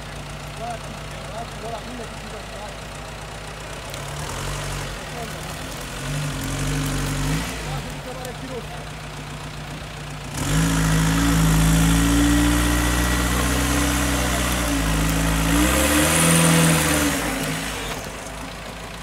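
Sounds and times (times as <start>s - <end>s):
buggy engine idling and revving: 0.0s - 19.0s.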